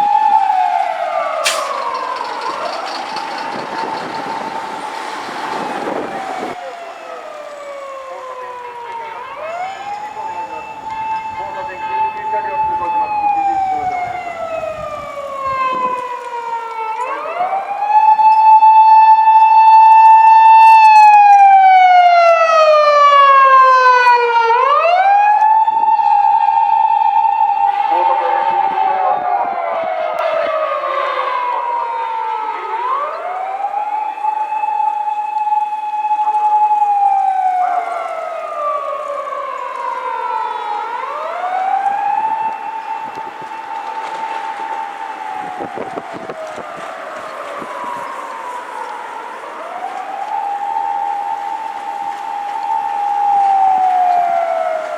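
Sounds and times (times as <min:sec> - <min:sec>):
police siren wailing: 0:00.0 - 0:54.9.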